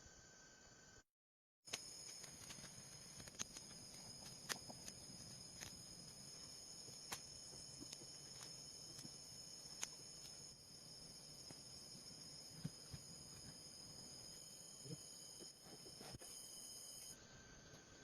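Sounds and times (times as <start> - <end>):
high-pitched insect chirring: 1.7 - 17.2.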